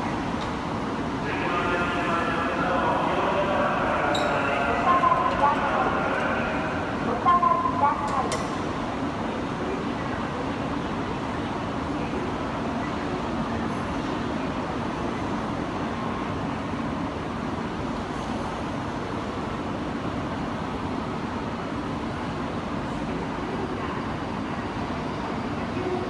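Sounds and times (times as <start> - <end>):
station platform rumble and hum: 0.0 - 26.0.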